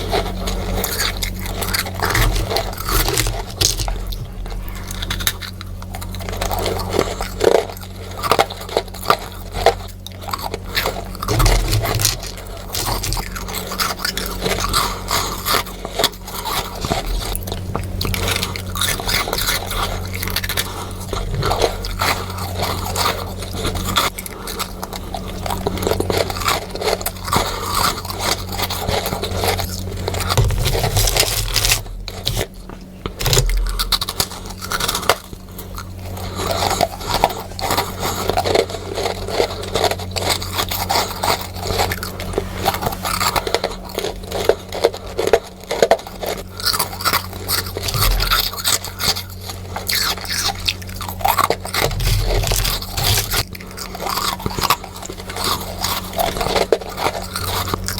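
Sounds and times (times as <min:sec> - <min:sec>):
crunchy chewing of frost: 0:00.0 - 0:57.9
faint low hum: 0:00.0 - 0:57.9.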